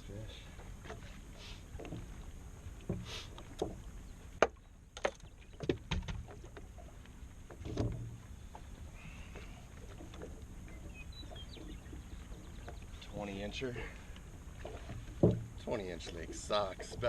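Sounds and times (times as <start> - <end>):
knocks and clatter in boat: 0.0 - 17.0
water noise: 0.0 - 17.0
wind: 0.0 - 17.0.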